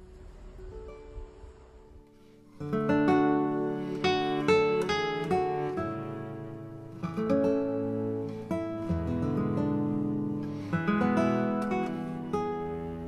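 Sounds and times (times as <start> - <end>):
acoustic guitar strumming chords: 1.8 - 13.0.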